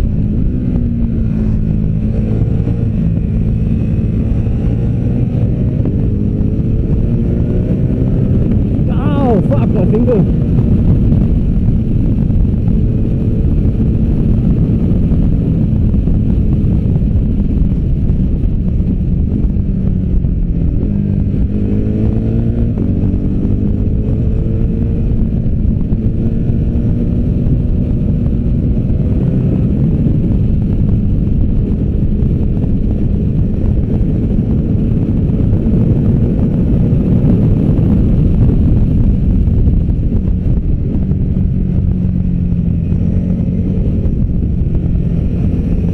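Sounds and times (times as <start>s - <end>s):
motorcycle engine revving: 0.0s - 45.9s
wind rush on microphone: 0.0s - 45.9s.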